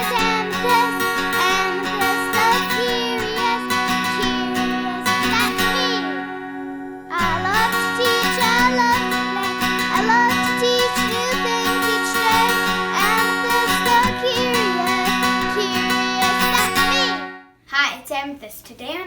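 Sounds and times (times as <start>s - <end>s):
child singing: 0.0s - 6.3s, 7.1s - 17.3s
acoustic guitar: 0.0s - 17.8s.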